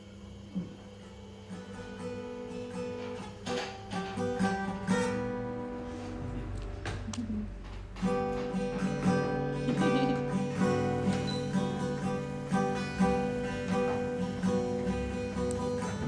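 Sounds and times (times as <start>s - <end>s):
plucked acoustic guitar music: 1.5s - 16.0s.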